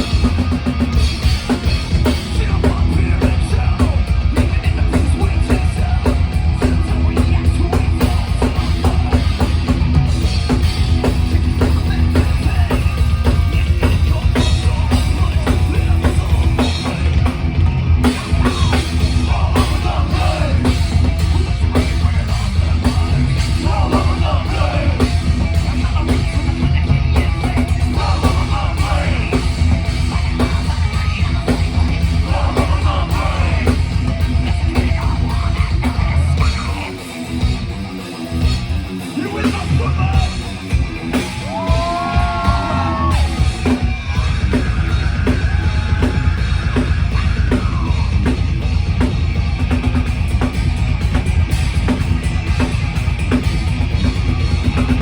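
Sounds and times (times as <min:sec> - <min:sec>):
thrash metal band playing: 0:00.0 - 0:55.0.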